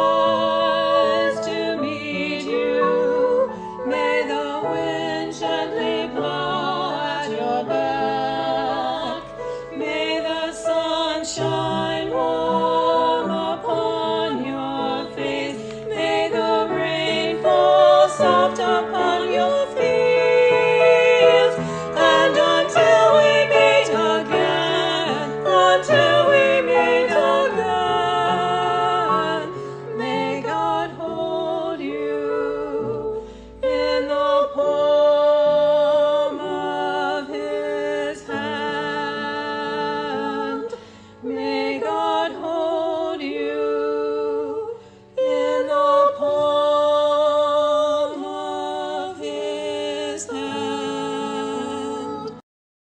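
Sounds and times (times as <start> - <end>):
hymn singing: 0.0 - 52.4.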